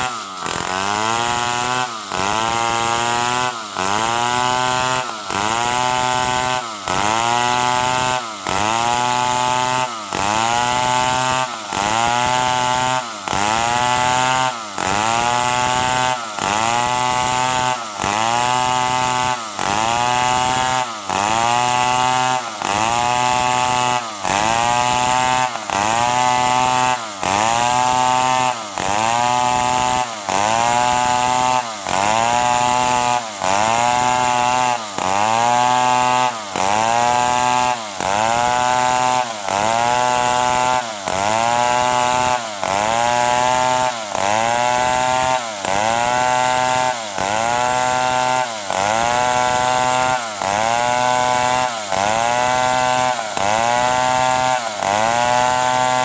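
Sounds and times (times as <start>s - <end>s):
chainsaw sawing timber: 0.0s - 56.0s.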